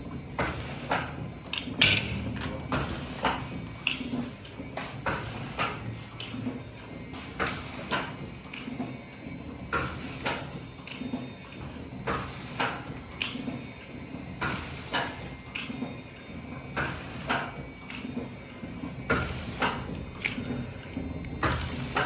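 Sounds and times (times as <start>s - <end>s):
machine low hum: 0.0s - 22.0s.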